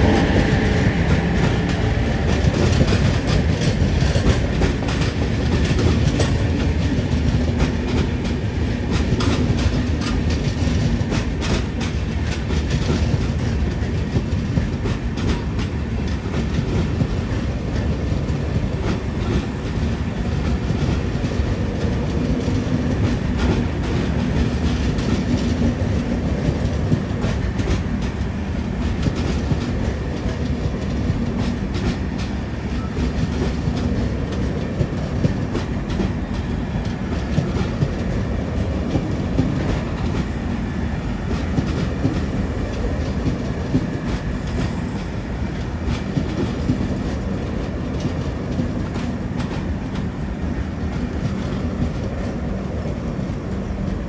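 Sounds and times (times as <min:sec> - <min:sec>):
clickety-clack of wheels: 0:00.0 - 0:54.0
train wheels rumbling on rails: 0:00.0 - 0:54.0.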